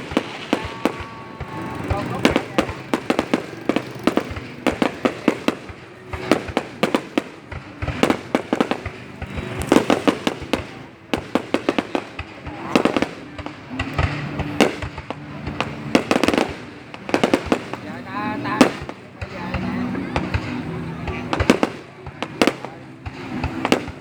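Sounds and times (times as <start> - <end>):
fireworks bangs and crackles: 0.0 - 24.0
music playing: 0.0 - 24.0.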